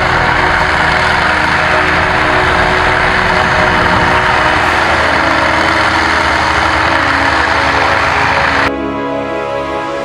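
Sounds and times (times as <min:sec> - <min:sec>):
heavy machine engine running: 0:00.0 - 0:08.7
strong rushing noise: 0:00.0 - 0:08.7.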